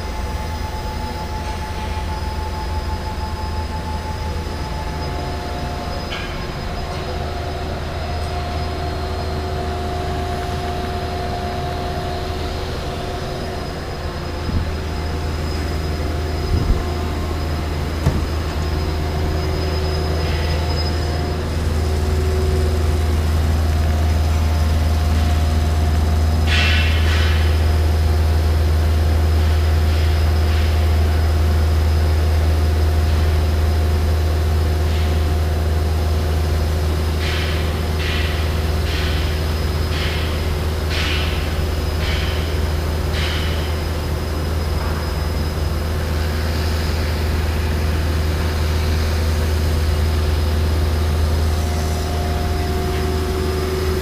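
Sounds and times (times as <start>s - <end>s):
industrial machinery humming: 0.0s - 54.0s.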